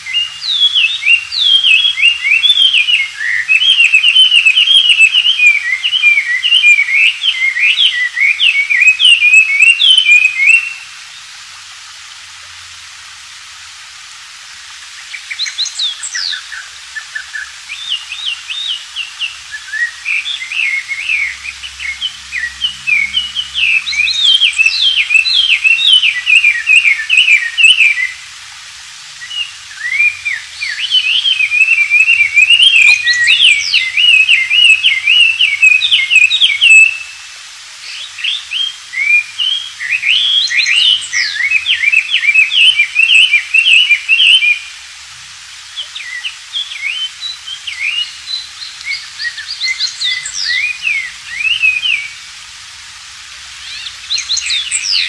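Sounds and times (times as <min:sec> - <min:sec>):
songbird singing sweeping notes: 0:00.0 - 0:11.3, 0:15.0 - 0:28.2, 0:29.1 - 0:44.7, 0:45.7 - 0:52.2, 0:53.6 - 0:55.0.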